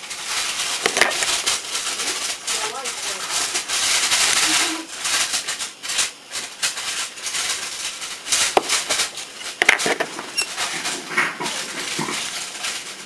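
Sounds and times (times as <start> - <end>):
tweezers rubbing tape scratchily: 0.6 - 12.2.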